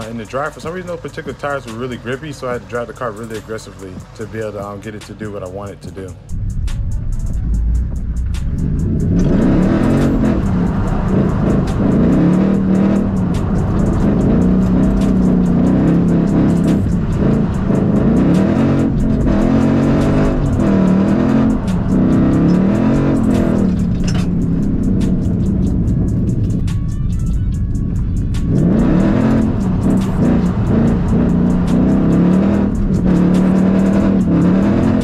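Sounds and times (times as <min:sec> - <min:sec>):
car engine revving: 0:00.0 - 0:35.0
fast-beat background music: 0:00.0 - 0:35.0.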